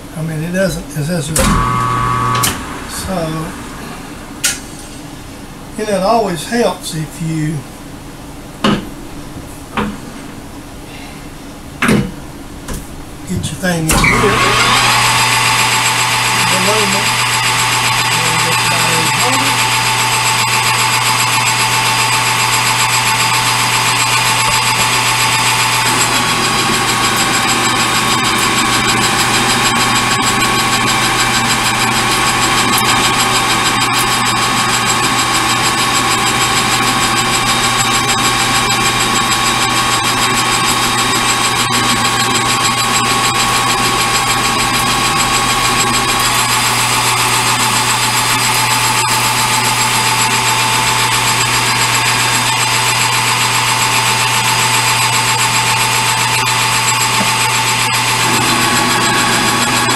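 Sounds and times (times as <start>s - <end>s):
metal lathe running: 1.4s - 5.2s, 13.9s - 59.9s.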